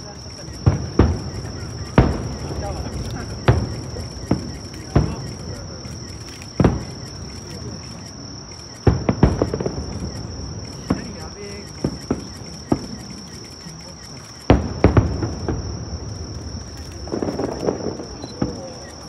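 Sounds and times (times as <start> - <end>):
distant fireworks booming: 0.0 - 19.0
night insects droning: 0.0 - 19.0.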